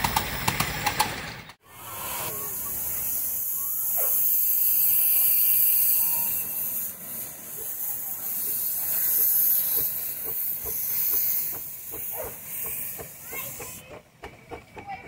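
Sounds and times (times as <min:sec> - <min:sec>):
locomotive chuffing beat: 0:00.0 - 0:15.0
steam locomotive hissing: 0:00.0 - 0:15.0.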